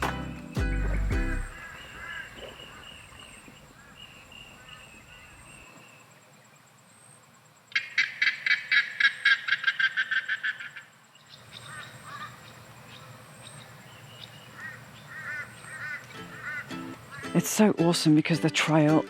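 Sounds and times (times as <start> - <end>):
faint chirping calls: 0.0 - 17.4.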